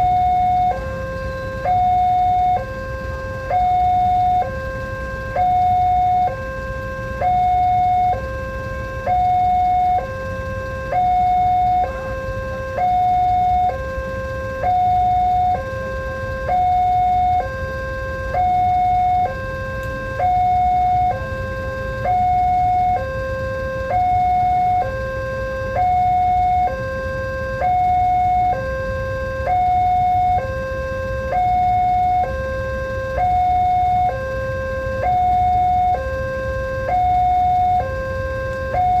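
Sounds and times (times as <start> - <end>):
level crossing two-tone alarm: 0.0 - 39.0.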